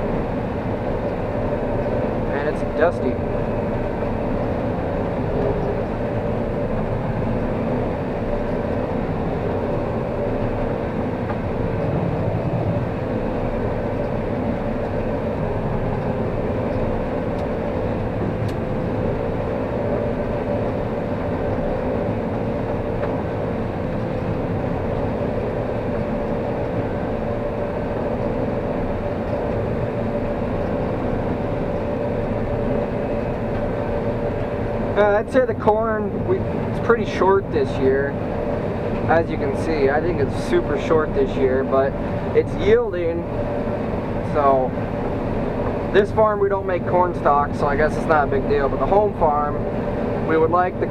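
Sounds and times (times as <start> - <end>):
combine harvester machinery drone: 0.0 - 50.9.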